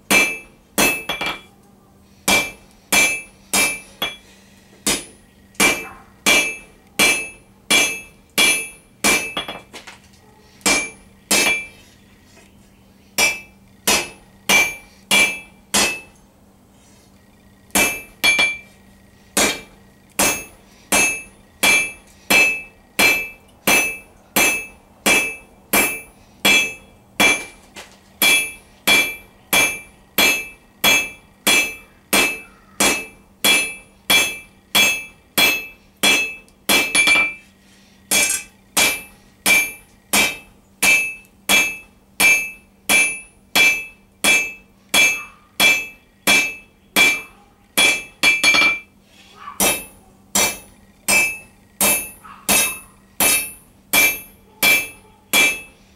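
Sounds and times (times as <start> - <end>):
hammer striking steel on an anvil: 0.0 - 1.5, 2.3 - 9.7, 10.6 - 11.8, 13.2 - 16.2, 17.8 - 18.7, 19.4 - 27.6, 28.2 - 37.5, 38.1 - 48.9, 49.6 - 55.8.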